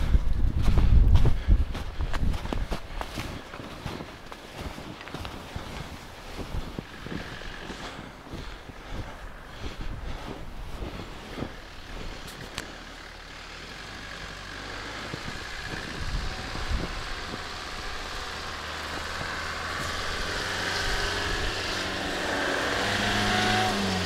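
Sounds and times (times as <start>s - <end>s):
diesel engine working hard: 0.0s - 24.0s.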